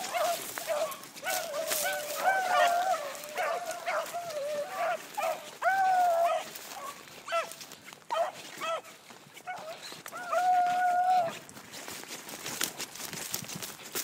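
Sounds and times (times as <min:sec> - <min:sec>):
hounds baying: 0:00.0 - 0:11.4.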